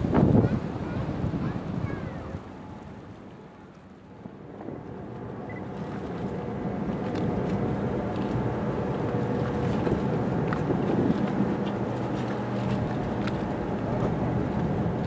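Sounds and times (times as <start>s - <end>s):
ship machinery drone: 0.0s - 15.0s.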